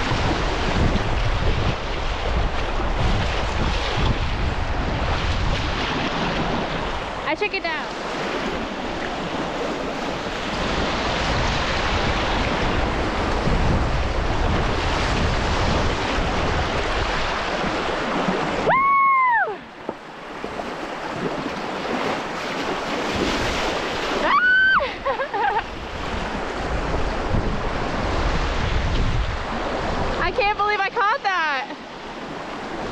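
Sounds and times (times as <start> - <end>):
rushing whitewater: 0.0 - 5.1, 5.7 - 32.9
wind noise: 0.0 - 31.0.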